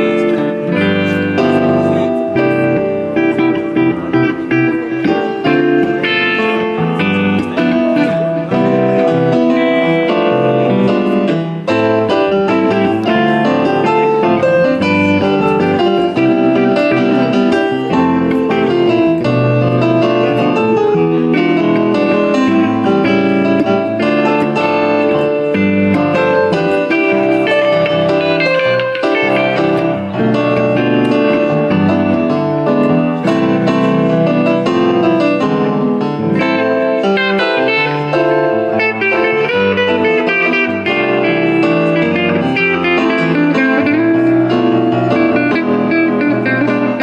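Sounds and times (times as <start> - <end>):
electric guitar playing: 0.0 - 47.0
keyboard playing piano sound: 0.0 - 47.0.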